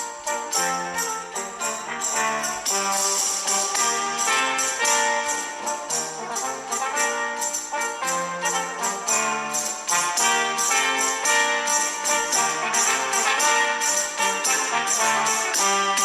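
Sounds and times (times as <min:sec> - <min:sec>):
sleigh bells jingling: 0:00.0 - 0:16.0
tambourine: 0:00.0 - 0:16.0
upbeat orchestral music: 0:00.0 - 0:16.0.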